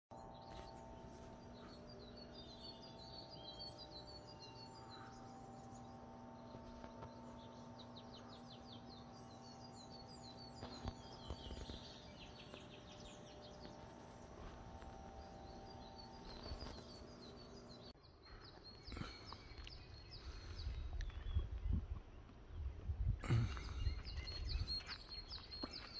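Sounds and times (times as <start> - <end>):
low steady hum: 0.1 - 25.9
songbirds chirping and trilling: 0.1 - 25.9.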